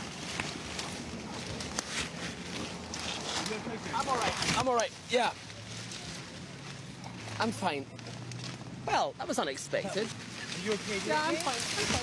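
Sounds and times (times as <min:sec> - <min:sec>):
branches snapping: 0:00.0 - 0:08.8, 0:10.3 - 0:12.0
branches and leaves rustling: 0:00.0 - 0:12.0.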